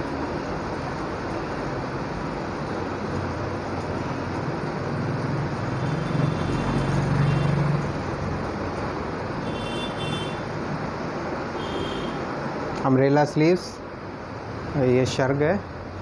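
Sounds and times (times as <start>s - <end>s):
road traffic rush: 0.0s - 16.0s.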